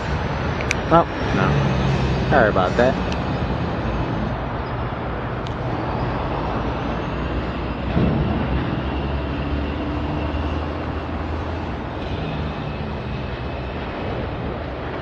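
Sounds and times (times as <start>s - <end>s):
diesel locomotive engine droning: 0.0s - 15.0s
freight train rumble: 0.0s - 15.0s.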